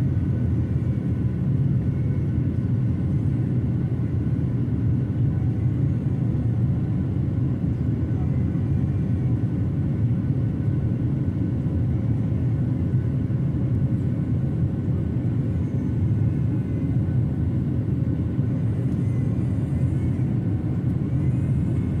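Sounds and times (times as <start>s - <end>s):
jet engines and airflow rumble: 0.0s - 22.0s
faint steady tones: 0.1s - 22.0s.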